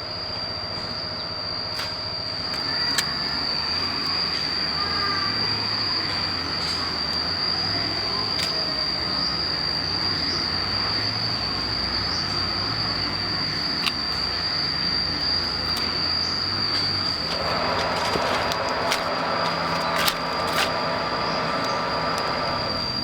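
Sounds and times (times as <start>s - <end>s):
constant rushing hiss: 0.0s - 23.0s
insects droning: 0.0s - 23.0s.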